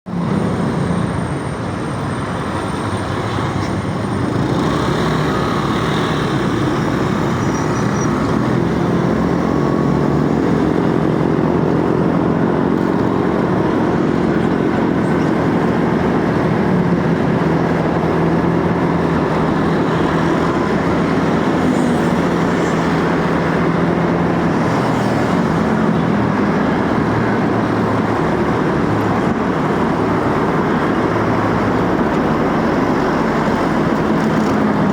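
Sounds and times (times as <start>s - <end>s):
motorcycle engine accelerating: 4.1s - 34.9s.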